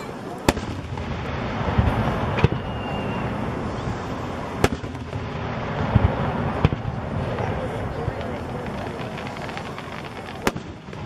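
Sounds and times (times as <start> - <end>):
steady background noise: 0.0 - 11.0
firework shells bursting: 0.4 - 11.0.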